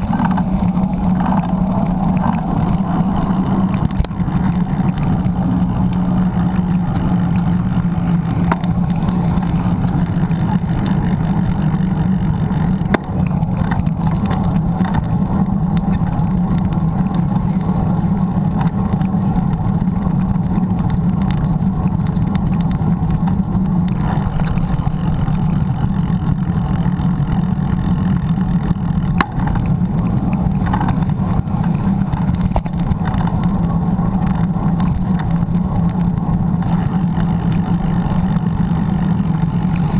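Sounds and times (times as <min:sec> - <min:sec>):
bike tyres on asphalt: 0:00.0 - 0:39.9
wind rumble on microphone: 0:00.0 - 0:39.9.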